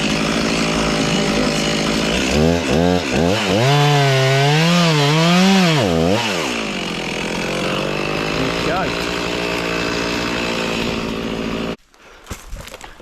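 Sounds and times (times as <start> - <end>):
chainsaw idling and revving: 0.0 - 11.8.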